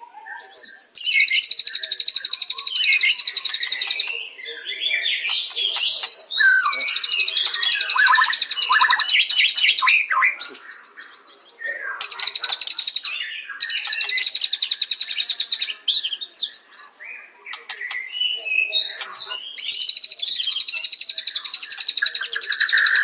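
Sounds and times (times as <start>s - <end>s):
songbird singing trills and whistles: 0.0s - 23.0s.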